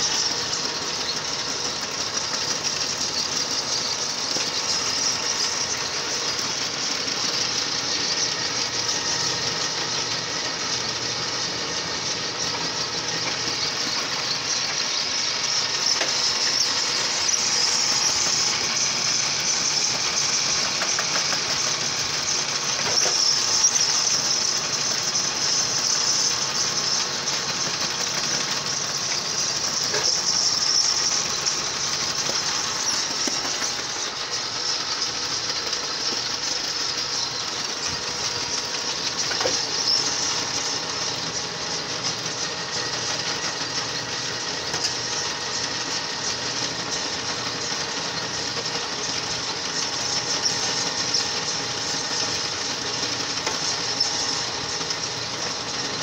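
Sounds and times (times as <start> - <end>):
clay mixer running: 0.0 - 56.0.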